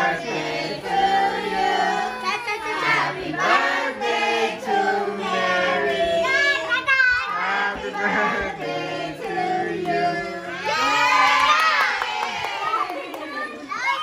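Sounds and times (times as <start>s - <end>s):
children and adults singing: 0.0s - 13.3s.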